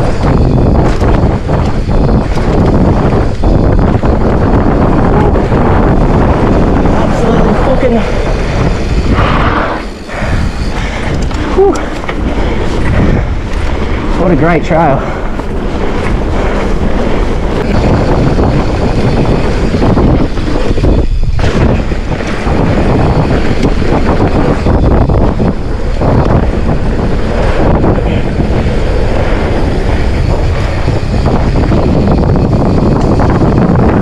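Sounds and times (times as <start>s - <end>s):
bike rattling over dirt: 0.0s - 34.0s
wind noise on microphone: 0.0s - 34.0s.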